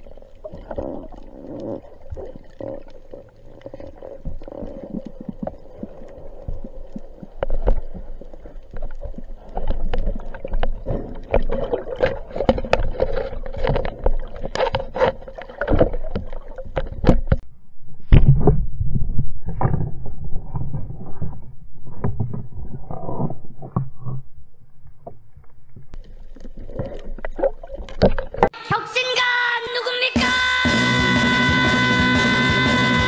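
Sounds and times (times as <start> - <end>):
underwater clicks and knocks: 0.0 - 17.4, 18.1 - 24.3, 24.9 - 28.6
water movement: 0.0 - 17.4, 19.5 - 28.7
low rumbling of water: 0.0 - 28.6.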